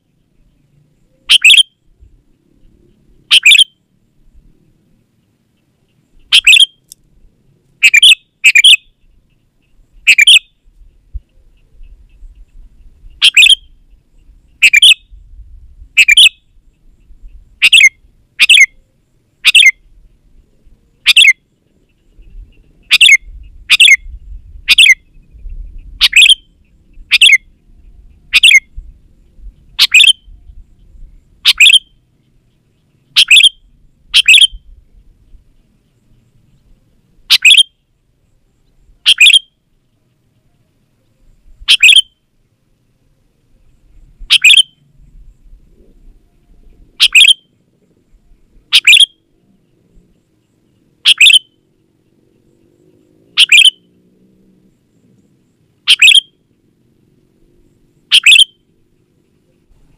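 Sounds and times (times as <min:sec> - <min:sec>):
bulbul calling: 0:00.0 - 0:03.8, 0:05.6 - 0:15.3, 0:15.9 - 0:20.0, 0:20.9 - 0:37.8, 0:38.6 - 0:42.2, 0:44.2 - 0:44.8, 0:46.6 - 0:47.6, 0:48.6 - 0:53.9, 0:55.0 - 0:56.5, 0:58.1 - 0:59.9.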